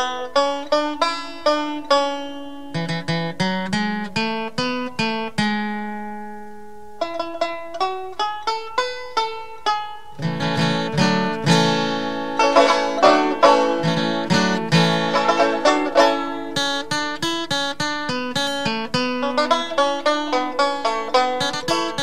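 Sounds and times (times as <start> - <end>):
plucked string music: 0.0 - 22.0.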